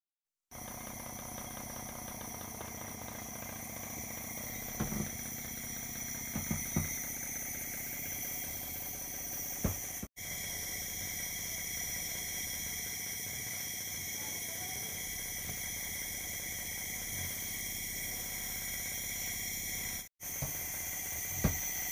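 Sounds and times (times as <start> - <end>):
nebulizer compressor humming: 0.5 - 21.9.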